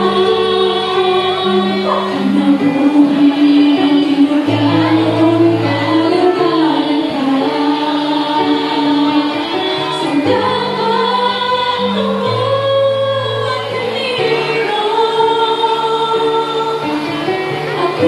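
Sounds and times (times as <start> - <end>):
group singing worship song: 0.0 - 18.0.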